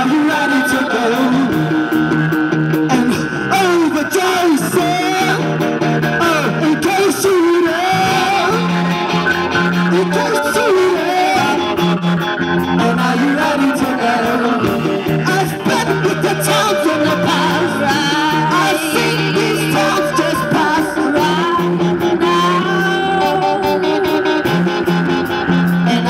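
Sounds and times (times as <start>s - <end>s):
person singing: 0.0s - 1.8s, 2.9s - 5.6s, 6.2s - 9.2s, 9.9s - 11.9s, 12.7s - 26.0s
band playing ska rock live: 0.0s - 26.0s
guitar: 0.0s - 26.0s.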